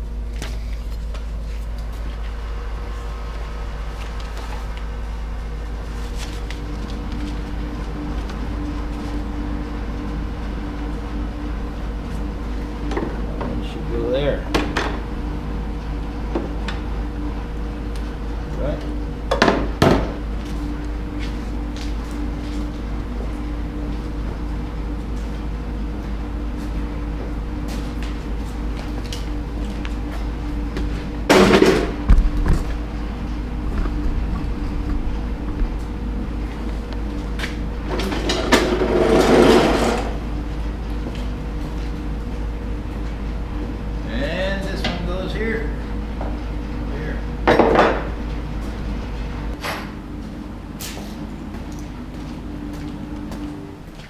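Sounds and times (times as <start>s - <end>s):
machine hum: 0.0s - 54.0s
higher machine tone: 2.4s - 54.0s.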